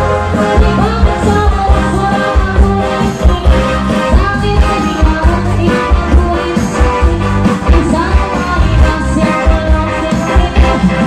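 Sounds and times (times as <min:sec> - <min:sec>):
bass beat: 0:00.0 - 0:11.0
live band playing cha-cha: 0:00.0 - 0:11.0
person singing: 0:00.1 - 0:11.0.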